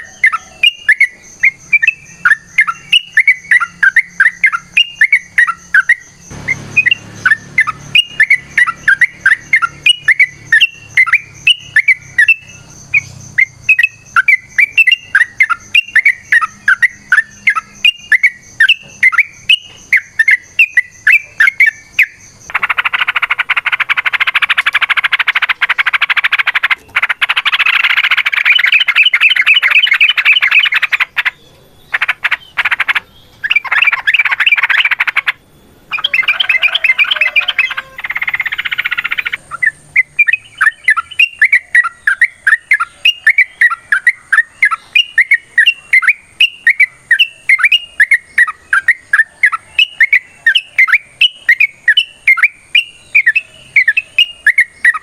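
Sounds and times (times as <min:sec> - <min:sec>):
bird song: 0:00.0 - 0:55.0.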